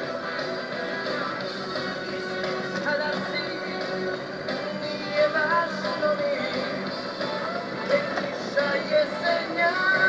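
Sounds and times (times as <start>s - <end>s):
rock song with guitar: 0.0s - 10.0s.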